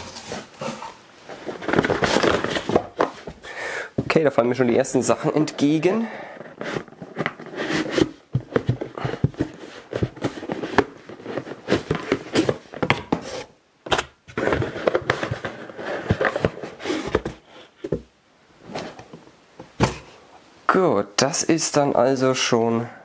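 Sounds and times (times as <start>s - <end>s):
cardboard boxes rustling and scraping: 0.0s - 4.2s, 5.1s - 20.3s.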